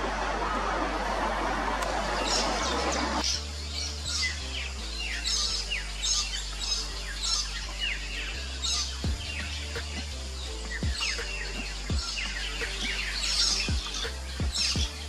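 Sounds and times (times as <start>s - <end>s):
birds twittering: 0.0s - 15.0s.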